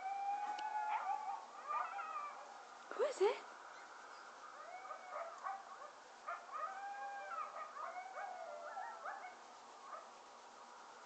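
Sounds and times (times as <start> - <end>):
coyotes yipping and howling: 0.0 - 2.7, 3.7 - 10.8.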